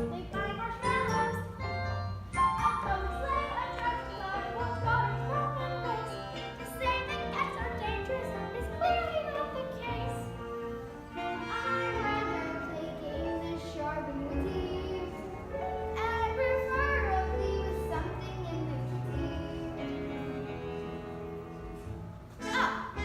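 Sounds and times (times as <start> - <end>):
musical accompaniment: 0.0 - 23.0.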